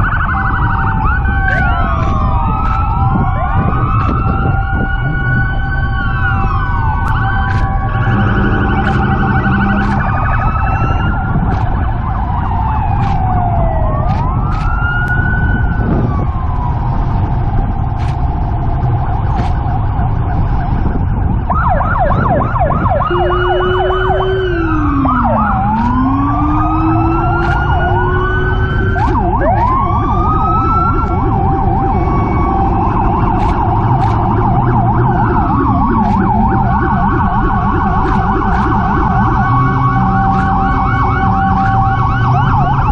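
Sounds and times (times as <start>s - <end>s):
fast siren yelp: 0.0s - 42.9s
sirens wailing: 0.0s - 42.9s
steady low rumble: 0.0s - 42.9s.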